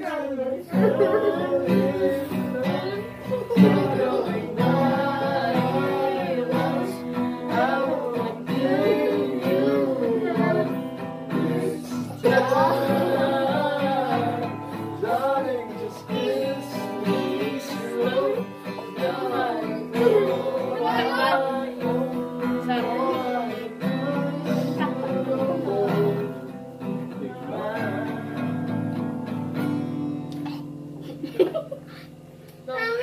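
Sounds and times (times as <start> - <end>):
children singing: 0.0 - 29.4
acoustic guitar strumming: 0.0 - 33.0.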